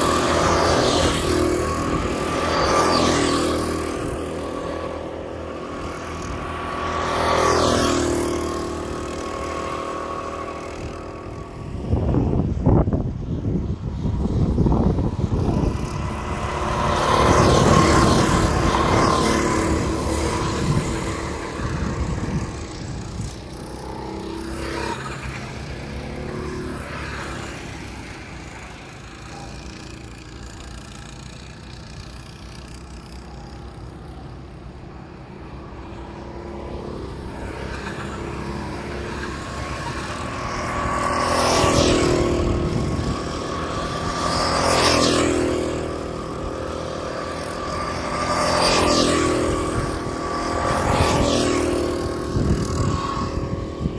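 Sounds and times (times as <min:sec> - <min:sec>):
go-kart engines buzzing: 0:00.0 - 0:53.9.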